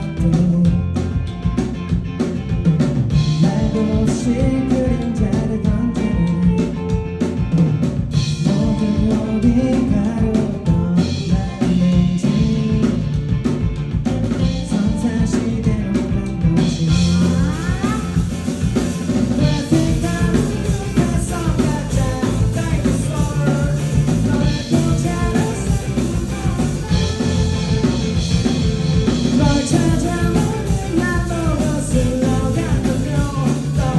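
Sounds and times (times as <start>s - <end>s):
bass: 0.0s - 33.9s
drum kit: 0.0s - 33.9s
guitar: 0.0s - 33.9s
person singing: 3.2s - 7.2s, 8.4s - 13.2s, 14.1s - 18.4s, 19.4s - 33.9s.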